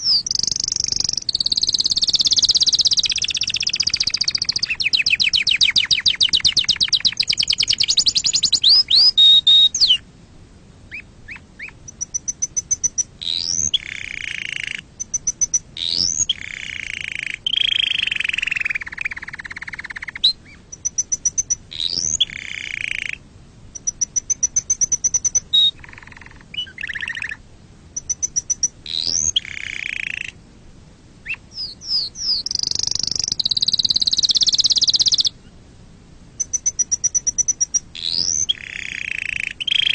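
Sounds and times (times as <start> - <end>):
canary singing: 0.0 - 10.0, 10.9 - 27.4, 28.0 - 30.4, 31.2 - 35.4, 36.4 - 39.9.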